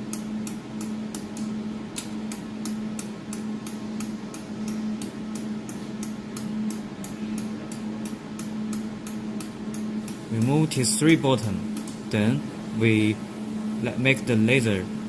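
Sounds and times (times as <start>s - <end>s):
welding machine humming: 0.0s - 15.0s.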